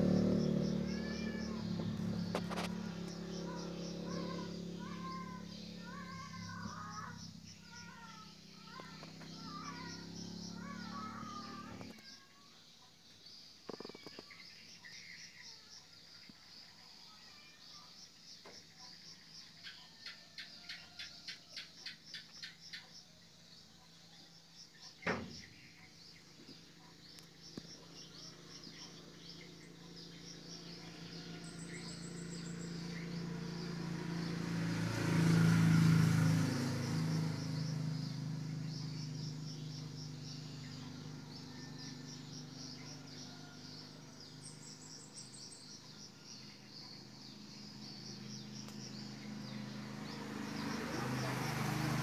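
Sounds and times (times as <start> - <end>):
night insects chirping: 0.0 - 52.0.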